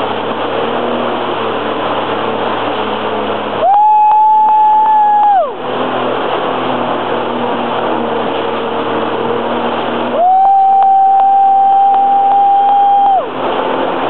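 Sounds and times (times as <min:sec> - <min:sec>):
jet ski engine running: 0:00.0 - 0:14.0
rush of wind and water: 0:00.0 - 0:14.0.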